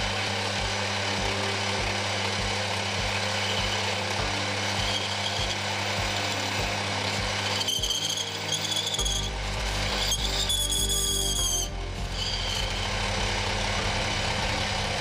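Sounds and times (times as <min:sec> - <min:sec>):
high ringing whine: 0:00.0 - 0:15.0
machine motor hum: 0:00.0 - 0:15.0.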